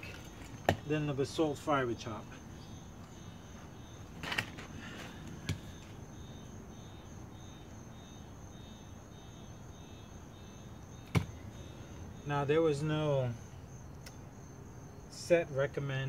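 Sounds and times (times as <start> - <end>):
insects humming: 0.0 - 16.0.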